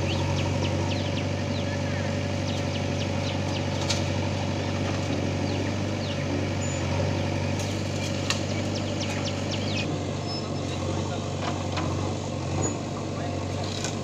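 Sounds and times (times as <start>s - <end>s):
diesel engines humming: 0.0s - 14.0s.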